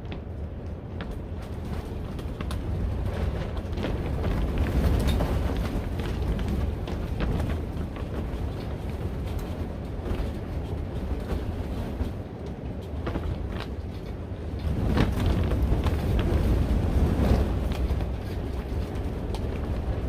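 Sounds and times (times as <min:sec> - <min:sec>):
strong wind buffeting greenhouse: 0:00.0 - 0:20.0.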